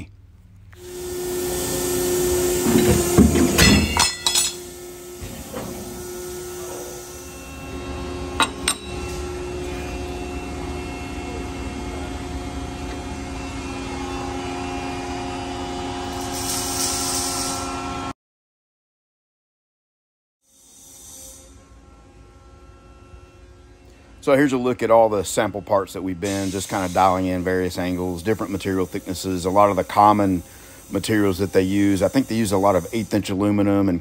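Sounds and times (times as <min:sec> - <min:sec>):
machine hum: 0:00.0 - 0:18.1, 0:21.4 - 0:33.1.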